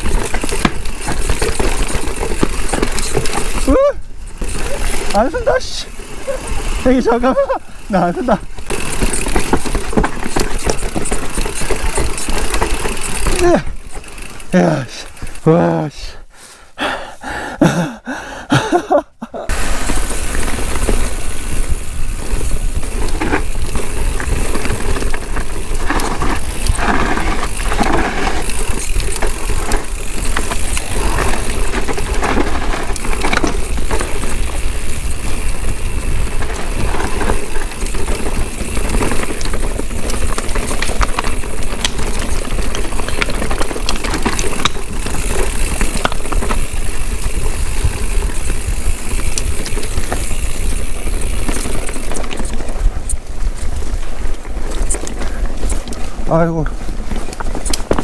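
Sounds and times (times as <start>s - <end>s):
bike chain and frame rattling: 0.0s - 16.2s, 16.8s - 58.0s
tyres on dirt: 0.0s - 58.0s.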